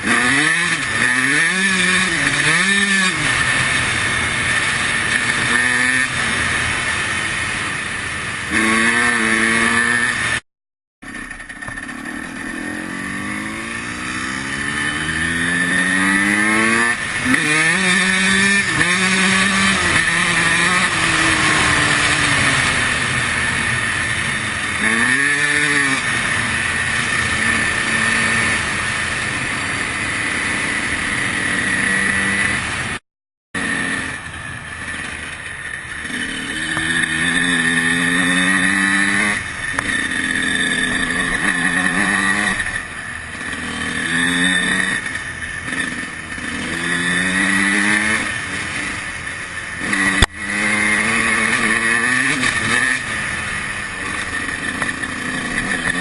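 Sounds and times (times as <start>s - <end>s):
dirt bike engine revving: 0.0s - 10.4s, 11.0s - 33.0s, 33.6s - 56.0s.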